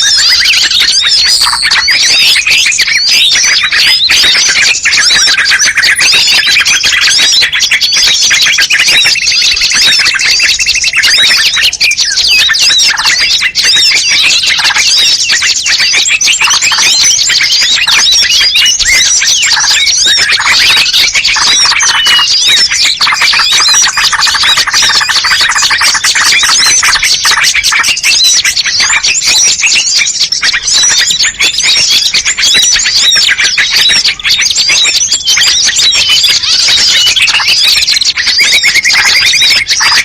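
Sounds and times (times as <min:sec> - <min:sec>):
bird trill: 0:00.0 - 0:40.0
songbirds chirping: 0:00.0 - 0:40.0.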